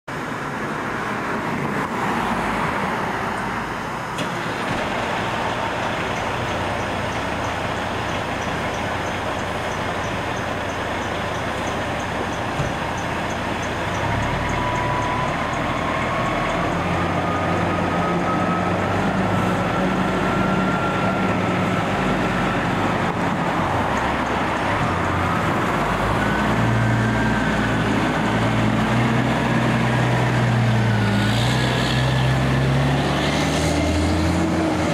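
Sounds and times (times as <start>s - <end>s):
fire engine diesel engine: 0.1s - 34.9s
street traffic hiss: 0.1s - 34.9s.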